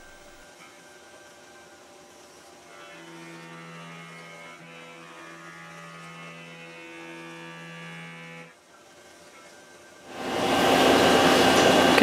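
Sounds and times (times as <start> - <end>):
milling machine humming and whining: 0.0 - 12.0.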